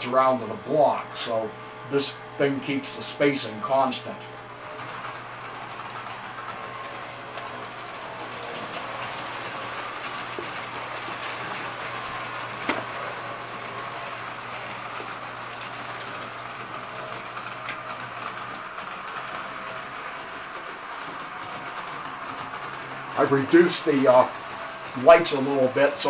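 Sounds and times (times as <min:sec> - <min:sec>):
model train wheels rattling: 0:02.0 - 0:26.0.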